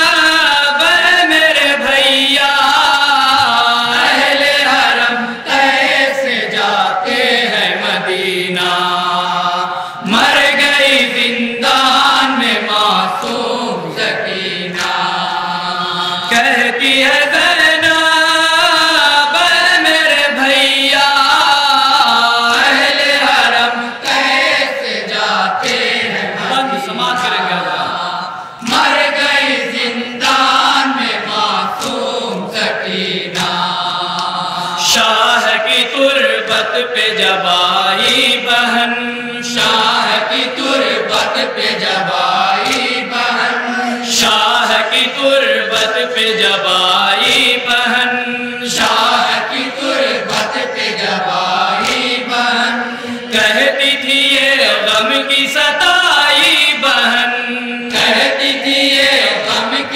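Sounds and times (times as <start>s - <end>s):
lead reciter singing: 0.0s - 59.9s
men chanting: 0.0s - 59.9s.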